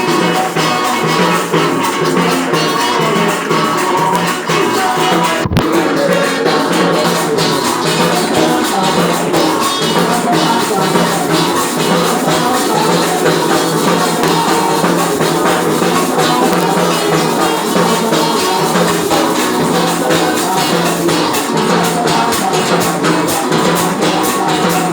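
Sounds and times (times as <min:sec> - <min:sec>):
music with shaken percussion: 0:00.0 - 0:24.9.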